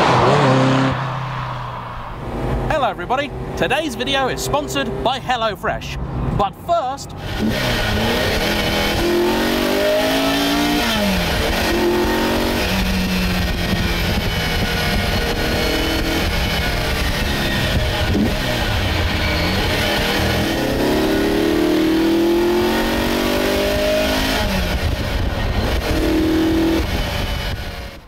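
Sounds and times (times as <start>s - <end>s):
sports car engine accelerating: 0.0s - 5.1s, 7.2s - 28.0s.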